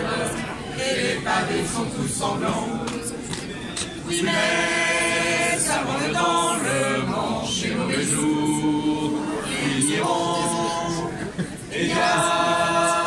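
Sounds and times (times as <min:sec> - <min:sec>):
crowd singing a chant: 0:00.0 - 0:13.0.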